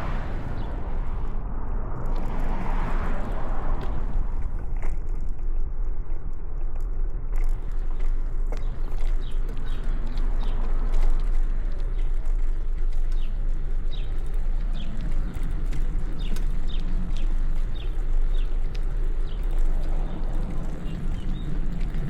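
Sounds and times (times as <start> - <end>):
wind and bicycle road rumble: 0.0 - 22.0.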